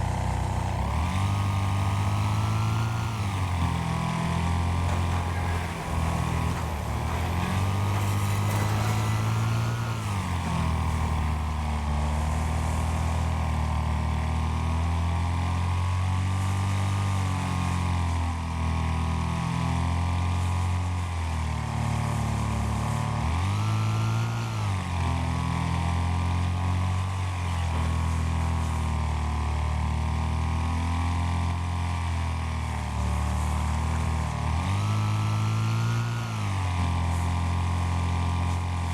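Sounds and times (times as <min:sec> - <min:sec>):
lawn mower engines revving: 0:00.0 - 0:17.8, 0:21.7 - 0:29.1, 0:31.4 - 0:38.9.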